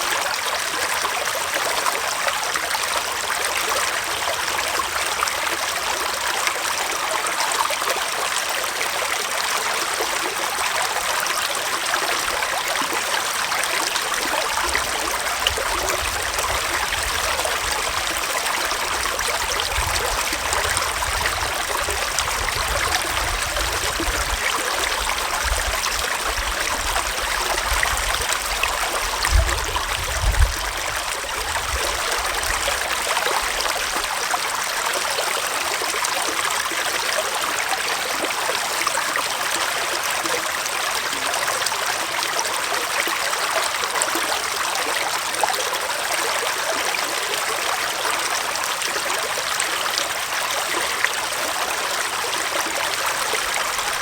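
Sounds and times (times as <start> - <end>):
stream water rushing and trickling: 0.0 - 54.0.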